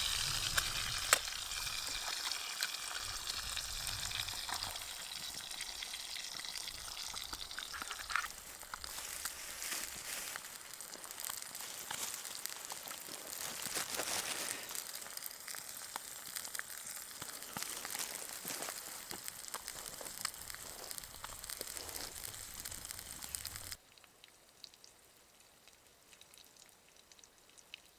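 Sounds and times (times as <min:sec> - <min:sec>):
food sizzling over campfire: 0:00.0 - 0:27.9
small pops and crackles: 0:00.0 - 0:27.9.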